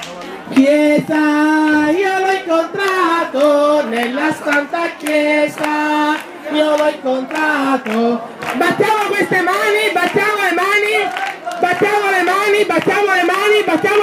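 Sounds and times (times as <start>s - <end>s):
group singing a devotional song: 0.5s - 14.0s.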